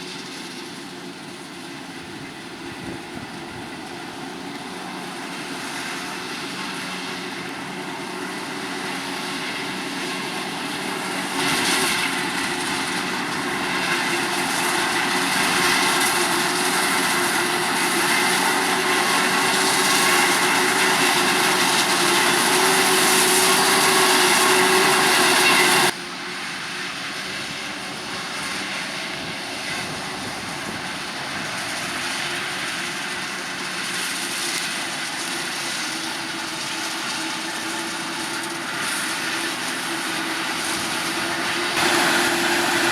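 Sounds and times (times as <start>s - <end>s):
heavy farm machinery engine: 0.0s - 42.9s.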